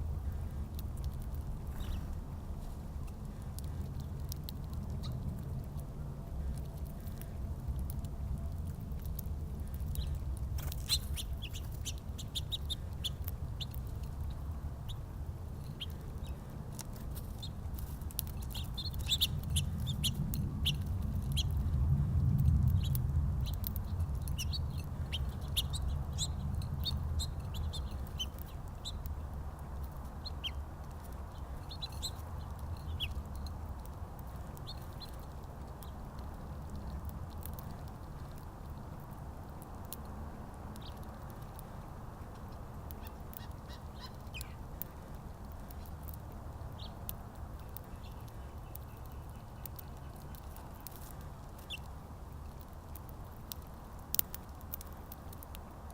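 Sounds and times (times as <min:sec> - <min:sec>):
low steady rumble: 0:00.0 - 0:55.9
small birds chirping: 0:00.0 - 0:55.9.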